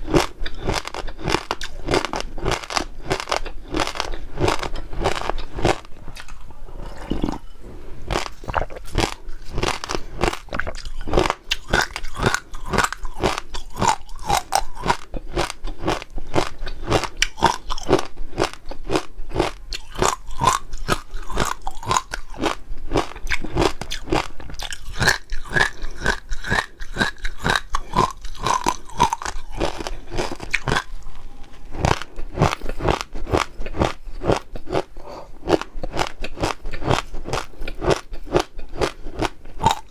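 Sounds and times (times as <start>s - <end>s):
close chewing crunches: 0.0s - 7.5s, 8.1s - 39.9s.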